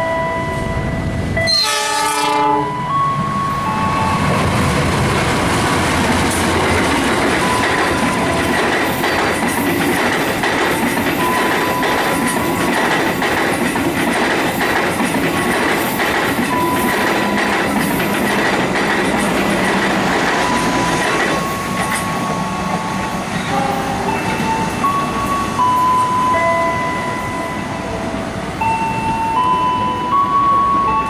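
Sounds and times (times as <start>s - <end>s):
passenger train rolling past: 0.0s - 31.0s.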